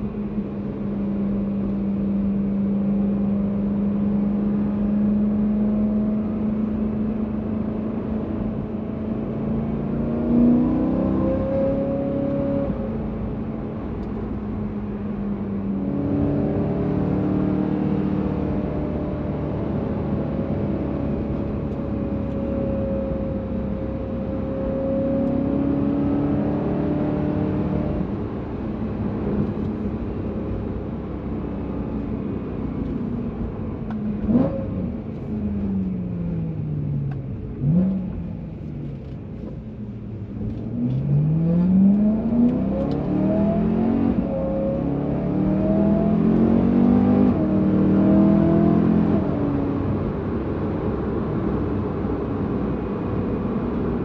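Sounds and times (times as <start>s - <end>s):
car engine revving: 1.2s - 14.7s, 15.7s - 54.0s.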